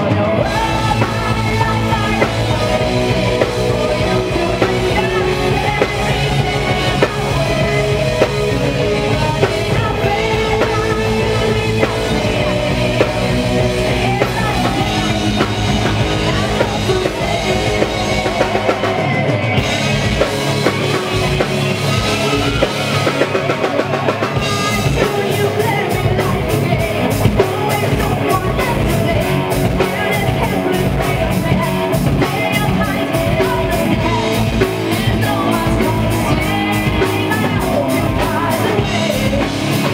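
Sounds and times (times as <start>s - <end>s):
metal band playing live: 0.0s - 39.9s
woman singing lead: 0.0s - 39.9s.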